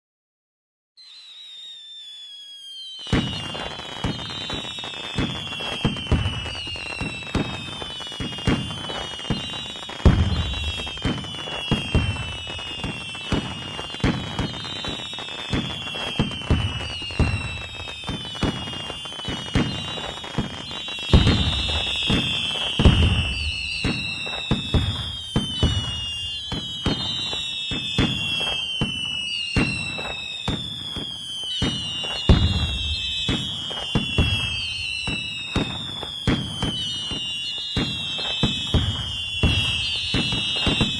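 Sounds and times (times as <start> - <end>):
descending firework whistles: 1.0 - 40.9
fireworks bangs and crackles: 1.0 - 40.9
deep firework booms: 3.0 - 40.9.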